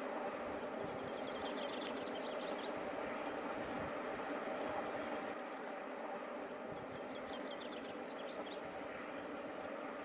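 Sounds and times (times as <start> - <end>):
distant steam train rumble: 0.0 - 10.0.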